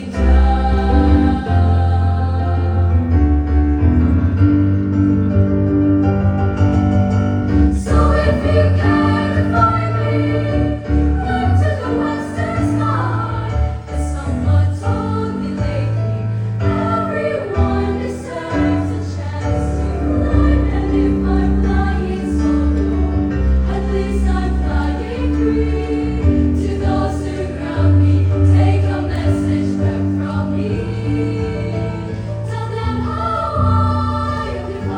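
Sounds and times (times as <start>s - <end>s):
children's choir singing: 0.0s - 3.1s, 7.7s - 34.9s.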